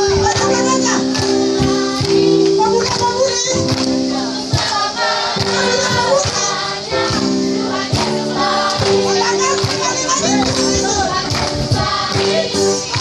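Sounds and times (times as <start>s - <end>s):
congregation singing: 0.0s - 13.0s
keyboard chords: 0.0s - 13.0s
steady percussive beat: 0.0s - 13.0s.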